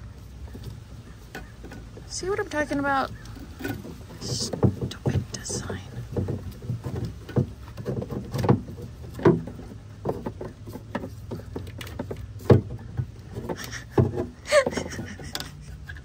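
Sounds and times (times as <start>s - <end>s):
hard plastic knocks and clicks: 2.7s - 16.0s.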